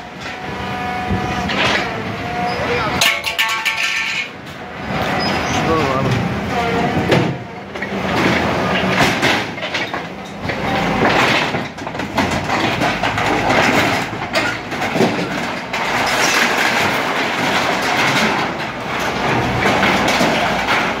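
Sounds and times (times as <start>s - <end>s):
metal crunching and clanking: 0.0s - 21.0s.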